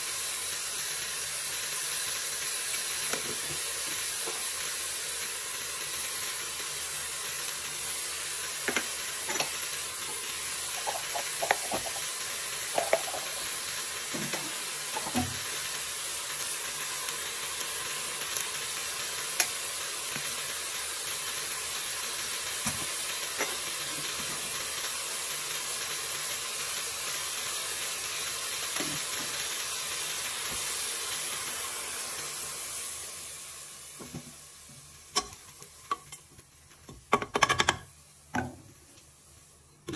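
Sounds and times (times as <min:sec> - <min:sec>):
meat sizzling in a pot: 0:00.0 - 0:39.9.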